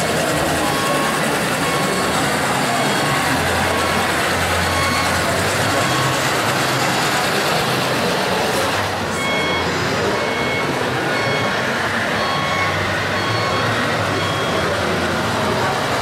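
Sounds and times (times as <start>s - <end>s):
reversing beeper: 0.0s - 15.8s
loud background noise: 0.0s - 16.0s.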